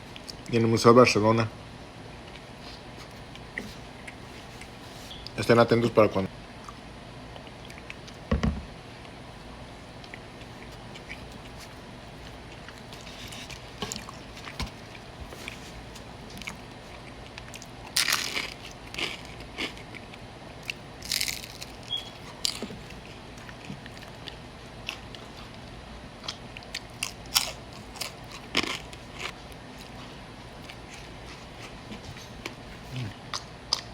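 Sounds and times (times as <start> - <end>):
chewing and crunching fried tacos: 0.0 - 0.6, 2.2 - 5.0, 6.6 - 8.3, 8.9 - 33.9.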